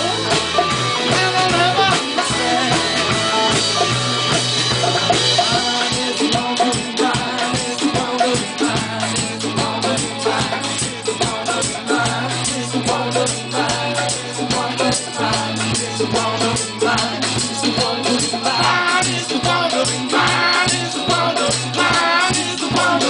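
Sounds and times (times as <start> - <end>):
person singing: 0.0 - 4.3, 5.3 - 23.0
bass line: 0.0 - 23.0
drums with shaker-like tick: 0.0 - 23.0
guitar: 0.0 - 23.0.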